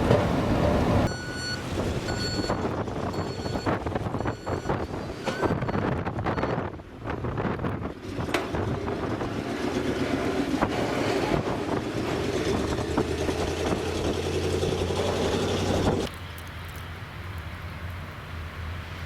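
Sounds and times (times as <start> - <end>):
vehicle rumble: 0.0 - 19.0
wind: 0.0 - 19.0.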